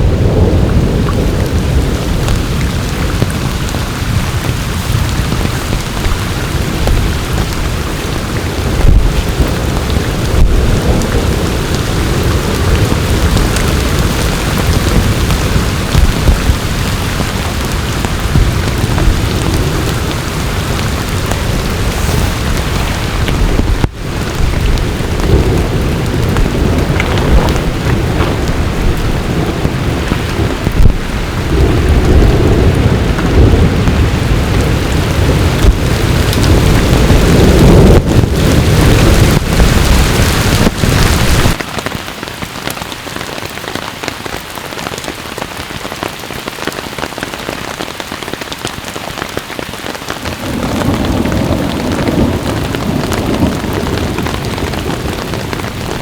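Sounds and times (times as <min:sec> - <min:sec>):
deep rolling thunder: 0:00.0 - 0:41.6, 0:50.3 - 0:56.0
heavy rain: 0:00.0 - 0:56.0.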